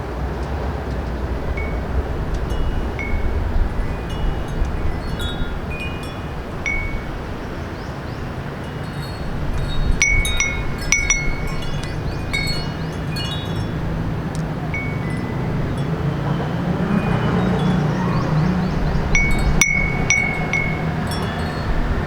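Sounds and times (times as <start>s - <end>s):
low hum of city traffic: 0.0s - 22.0s
metal wind chime ringing: 1.6s - 22.0s.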